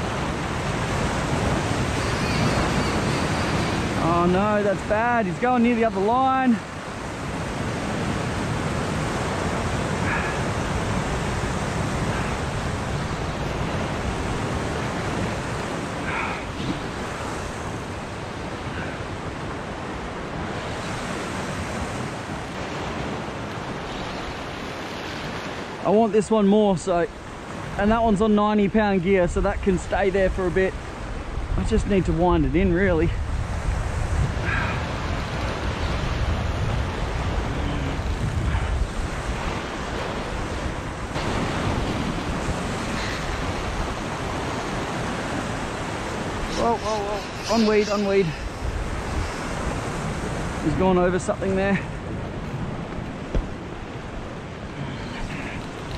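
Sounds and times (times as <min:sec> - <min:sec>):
wind buffeting microphone: 0:00.0 - 0:25.8, 0:28.8 - 0:55.9
sea waves washing on shore: 0:00.0 - 0:55.9.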